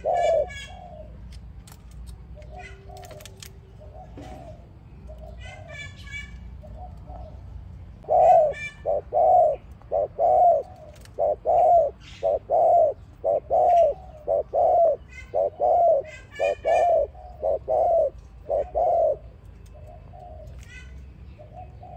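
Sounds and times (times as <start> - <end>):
dove cooing: 0.0 - 1.3, 2.4 - 7.4, 8.0 - 21.9
small birds chirping: 0.0 - 21.9.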